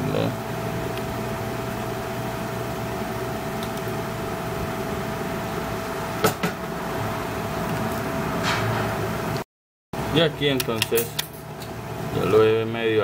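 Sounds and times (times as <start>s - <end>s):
steady background hum: 0.0s - 9.4s, 10.0s - 13.0s.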